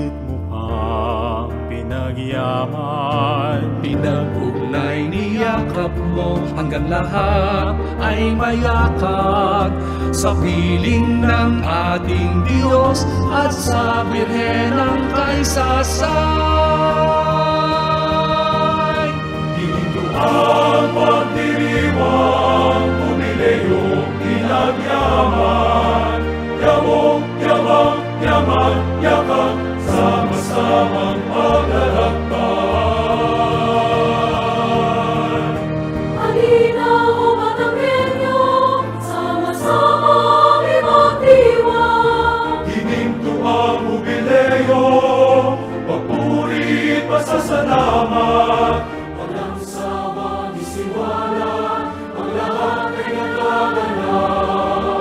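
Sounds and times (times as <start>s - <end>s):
choir singing a hymn: 0.0s - 55.0s
instrumental accompaniment: 0.0s - 55.0s.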